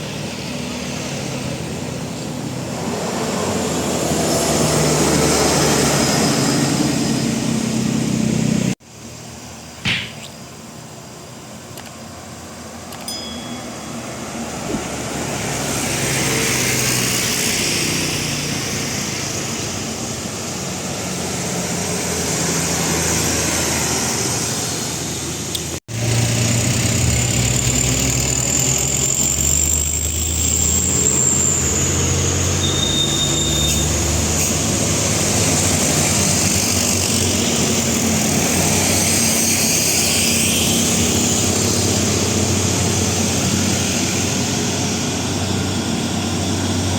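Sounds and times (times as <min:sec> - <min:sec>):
heavy diesel engines labouring uphill: 0:00.0 - 0:46.9.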